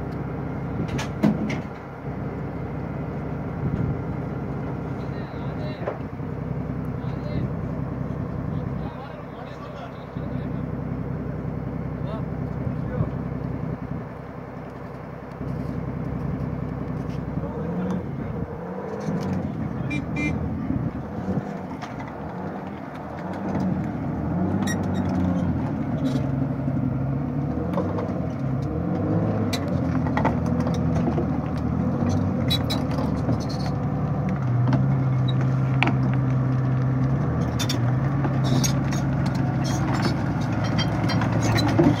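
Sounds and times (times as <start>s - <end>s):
tracked vehicle engine running: 0.0s - 42.0s.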